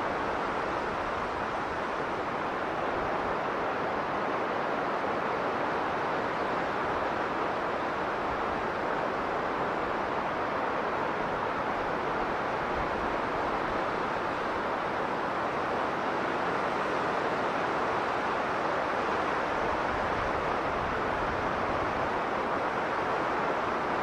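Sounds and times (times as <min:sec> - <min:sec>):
blizzard wind roaring: 0:00.0 - 0:24.0.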